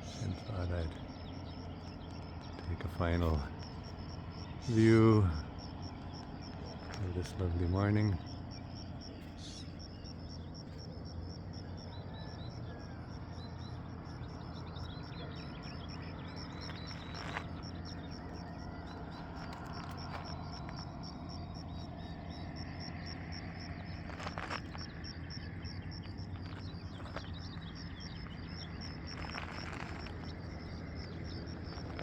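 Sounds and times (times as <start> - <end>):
faint bird chirps: 0.0 - 32.0
insect trilling: 0.0 - 32.0.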